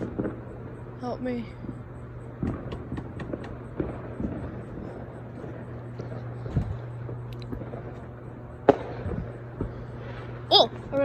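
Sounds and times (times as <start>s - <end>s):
fireworks popping: 0.0s - 11.0s
steady low hum: 0.0s - 11.0s.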